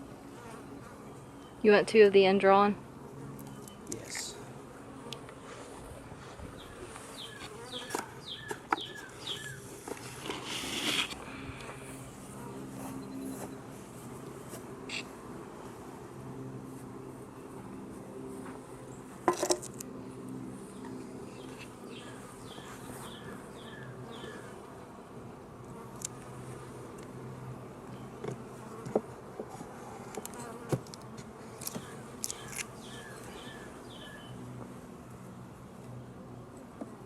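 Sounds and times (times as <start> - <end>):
bees buzzing: 0.0 - 37.0.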